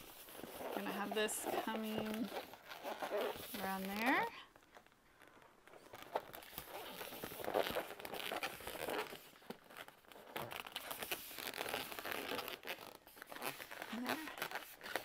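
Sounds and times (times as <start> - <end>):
balloons rubbing and squeaking: 0.0 - 15.0.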